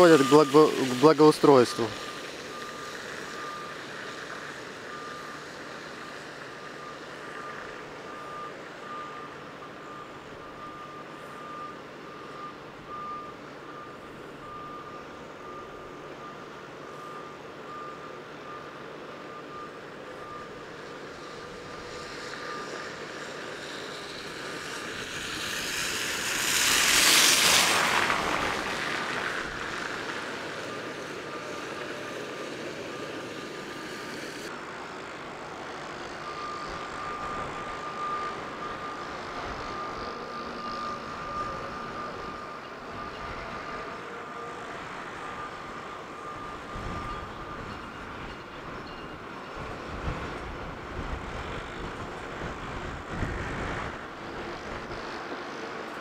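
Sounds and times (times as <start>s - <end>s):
reversing alarm beeping: 0.0s - 56.0s.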